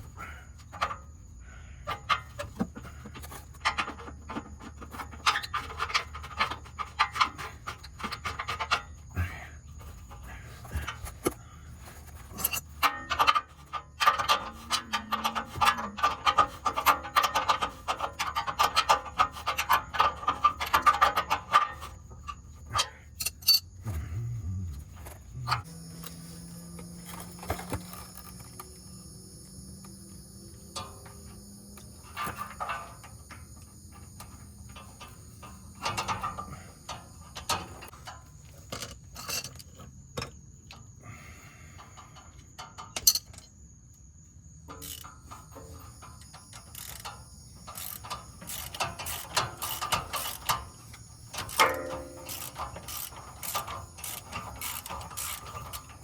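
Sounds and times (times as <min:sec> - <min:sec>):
metal hand tools clicking and scraping: 0:01.9 - 0:28.8, 0:30.7 - 0:39.8, 0:42.6 - 0:43.5, 0:44.7 - 0:56.0.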